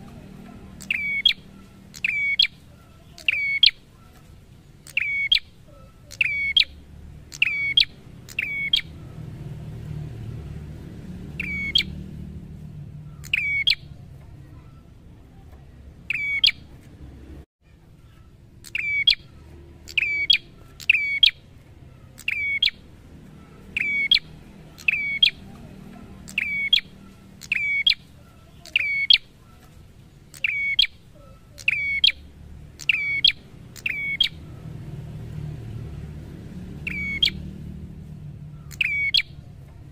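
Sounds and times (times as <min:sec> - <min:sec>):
bird chirping: 0:00.0 - 0:17.2, 0:18.0 - 0:39.9.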